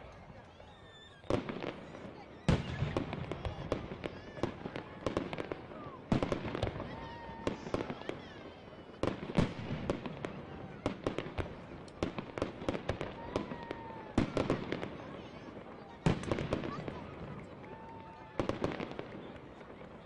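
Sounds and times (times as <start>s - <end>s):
fireworks crackling: 0.0s - 20.0s
fireworks booming and popping: 1.2s - 20.0s.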